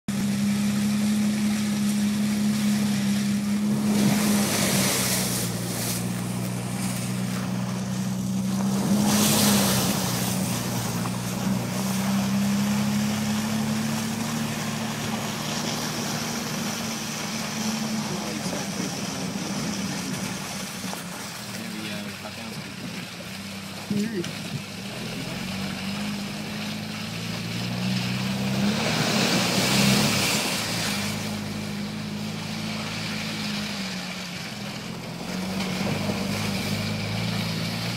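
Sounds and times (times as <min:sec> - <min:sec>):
car engine running: 0:00.0 - 0:37.9
water and mud splashing: 0:00.1 - 0:37.9.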